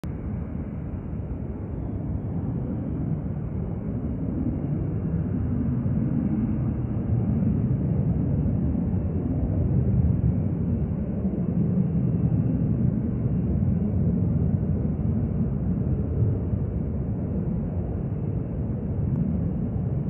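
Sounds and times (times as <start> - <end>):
distant jet takeoff rumble: 0.0 - 20.0.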